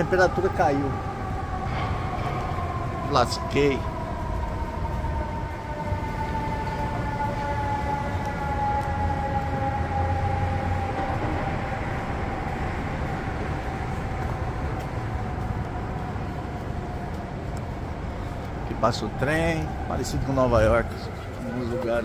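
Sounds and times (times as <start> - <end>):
train passing with whine: 0.0 - 22.0.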